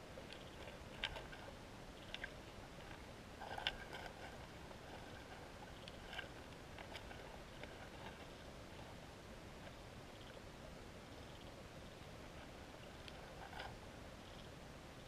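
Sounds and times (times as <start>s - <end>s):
low steady underwater hiss: 0.0s - 15.0s.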